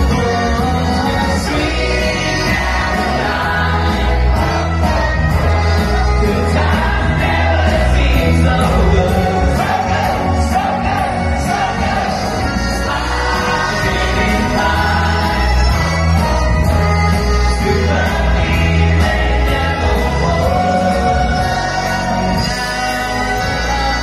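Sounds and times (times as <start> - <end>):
upbeat dance music: 0.0 - 24.0
voices singing together: 0.0 - 24.0.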